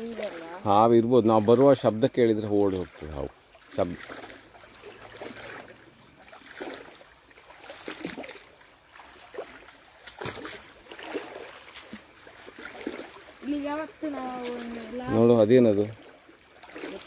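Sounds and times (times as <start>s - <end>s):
footsteps through stream and leaves: 0.0s - 17.0s
water trickling: 0.0s - 17.0s.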